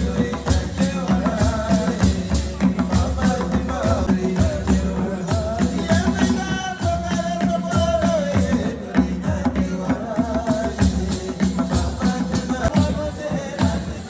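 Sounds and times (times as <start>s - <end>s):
drums beating: 0.0s - 14.0s.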